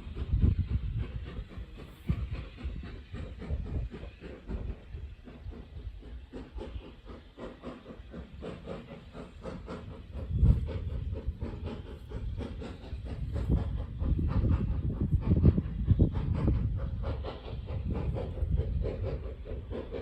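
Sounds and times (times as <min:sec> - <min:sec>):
train hiss: 0:00.0 - 0:20.0
train running with rhythmic beat: 0:00.0 - 0:20.0.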